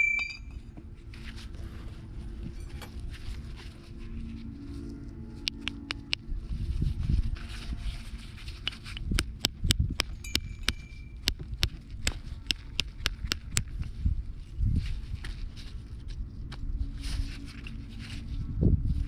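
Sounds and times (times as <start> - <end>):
low rumble of handling noise: 0.0 - 19.0.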